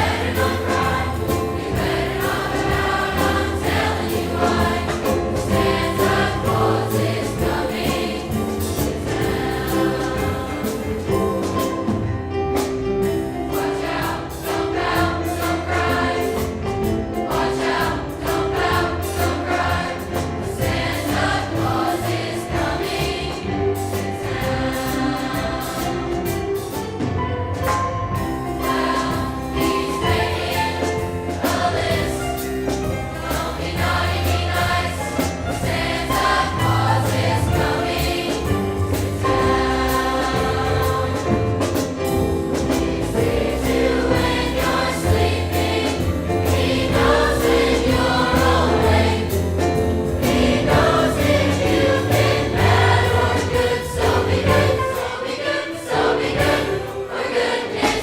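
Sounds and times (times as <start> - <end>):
choir singing with accompaniment: 0.0 - 58.0.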